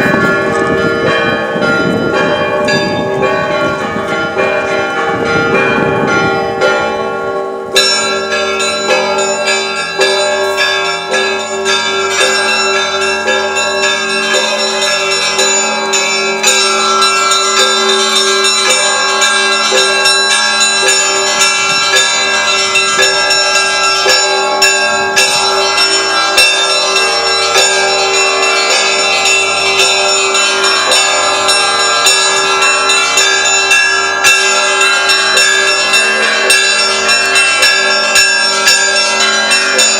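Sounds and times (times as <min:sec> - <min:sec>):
large bells humming: 0:00.0 - 0:39.9
small bells striking rapidly: 0:00.0 - 0:39.9.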